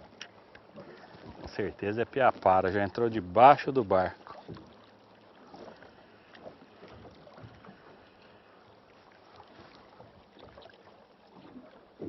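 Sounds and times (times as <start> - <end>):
faint water: 0.0 - 12.0.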